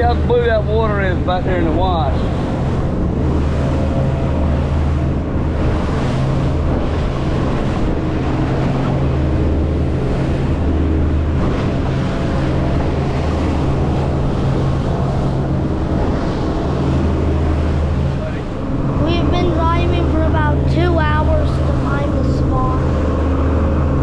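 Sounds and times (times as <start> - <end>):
boat engine drone: 0.0 - 24.0
rushing water: 0.0 - 24.0
wind noise: 0.0 - 24.0.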